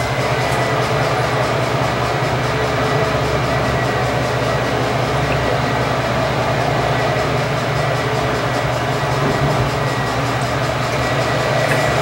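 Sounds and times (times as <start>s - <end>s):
mechanical drone with whine: 0.0s - 12.0s
oil pouring into a funnel: 0.1s - 12.0s.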